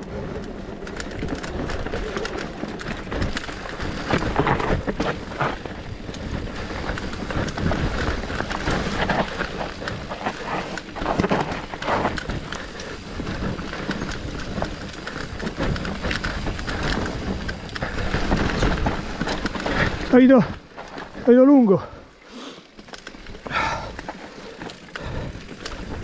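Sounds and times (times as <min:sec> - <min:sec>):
bike tyres rolling over dirt: 0:00.0 - 0:26.0
chain and frame rattling: 0:00.7 - 0:26.0.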